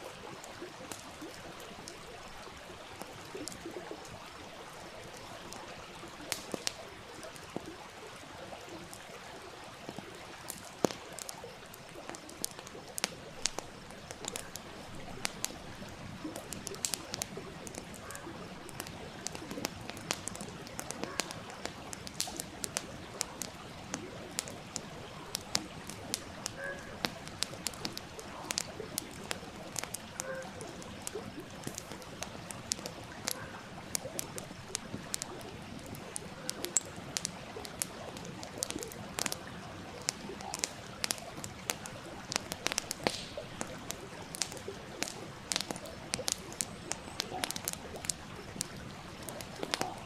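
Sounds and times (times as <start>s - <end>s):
campfire crackling and popping: 0.0s - 50.0s
small stream rushing: 0.0s - 50.0s.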